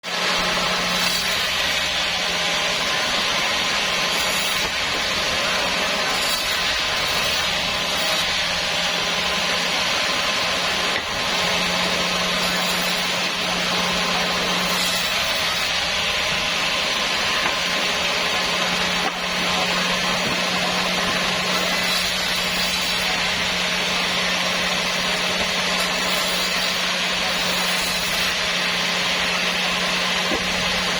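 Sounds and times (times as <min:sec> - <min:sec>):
saw blade cutting wood: 0:00.0 - 0:30.9
sawmill low hum: 0:00.1 - 0:30.9.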